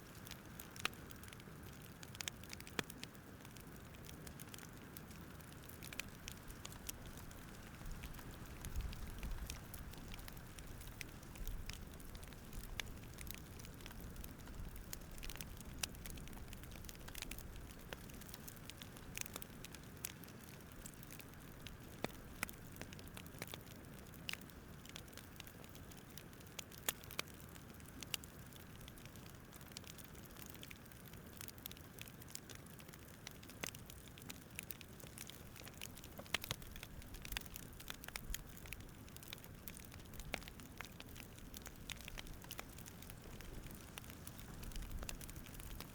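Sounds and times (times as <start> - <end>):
low rumble of burning logs: 0.0 - 45.9
wood fire crackling and popping: 0.0 - 45.9.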